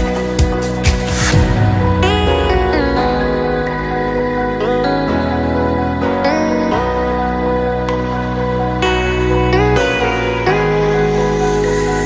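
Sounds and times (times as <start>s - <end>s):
sustained background music notes: 0.0s - 12.0s.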